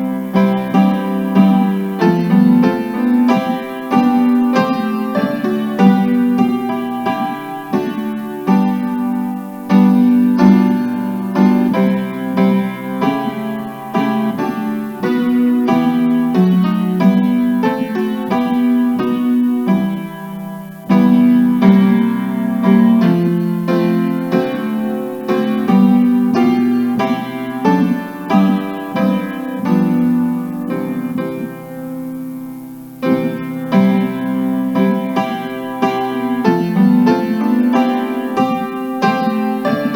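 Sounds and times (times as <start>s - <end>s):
piano playing hymn chords: 0.0s - 39.9s.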